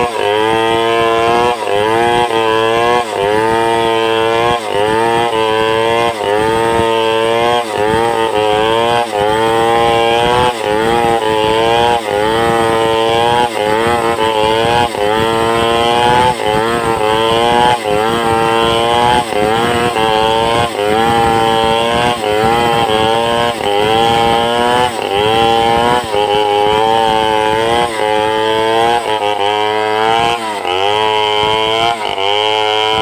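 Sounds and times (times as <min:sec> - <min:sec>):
chainsaw cutting timber: 0:00.0 - 0:33.0.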